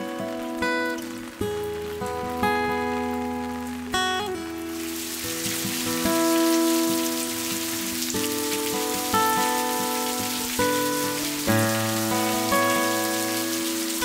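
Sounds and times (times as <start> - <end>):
rain streaming off roof eaves: 0.0 - 14.0
soft instrumental music: 0.0 - 14.0.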